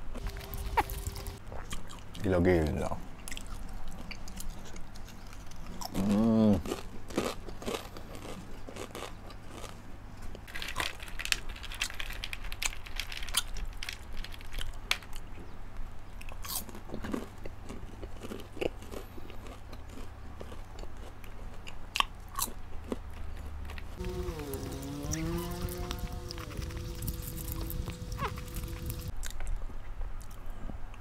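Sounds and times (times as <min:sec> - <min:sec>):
person chewing crunchy popcorn: 0:00.0 - 0:15.4, 0:16.2 - 0:30.7.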